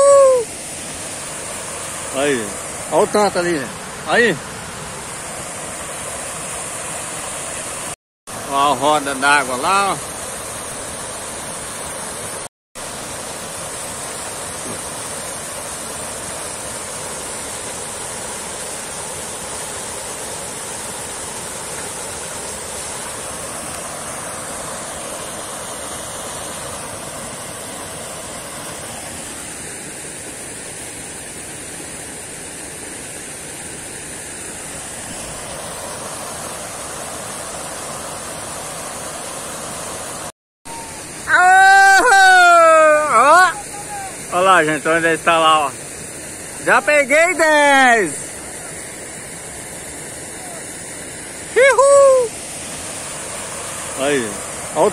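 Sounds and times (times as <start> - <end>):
water splashing at water wheel: 0.0 - 54.9.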